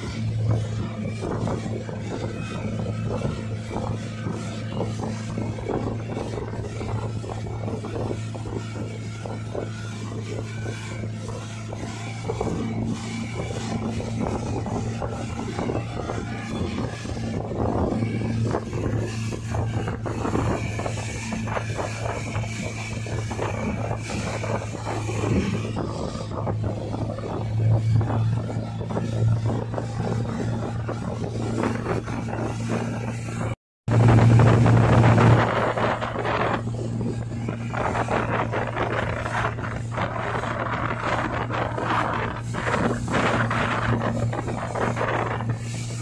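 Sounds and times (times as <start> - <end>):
churning wake rushing: 0.0 - 46.0
outboard motor running: 0.0 - 46.0
wind on microphone: 0.0 - 46.0.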